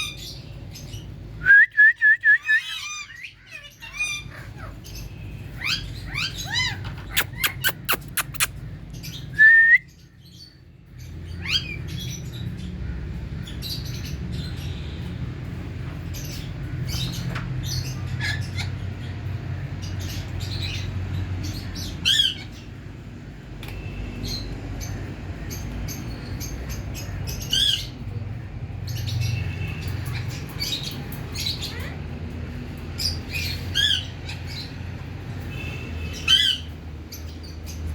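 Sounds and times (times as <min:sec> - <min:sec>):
parakeets squawking and chirping: 0:00.0 - 0:01.4, 0:02.4 - 0:09.3, 0:10.0 - 0:37.9.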